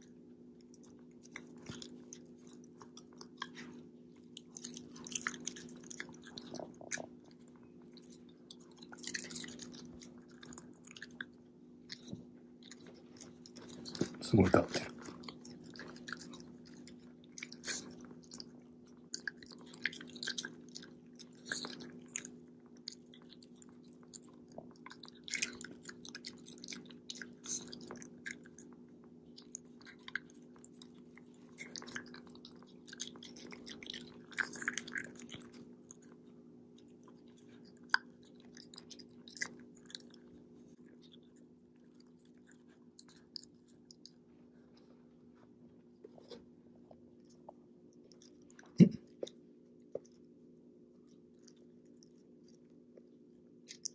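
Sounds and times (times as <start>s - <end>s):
dog chewing and crunching food: 0.0s - 53.9s
steady low hum: 0.0s - 53.9s.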